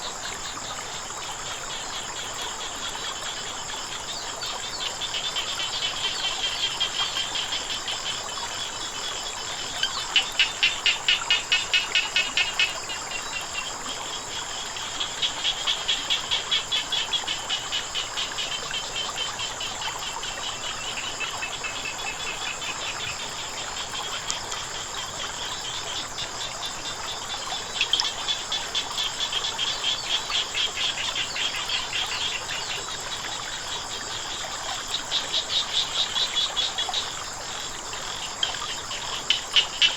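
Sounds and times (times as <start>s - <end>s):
frogs croaking: 0.0s - 39.9s
insects droning: 0.0s - 39.9s.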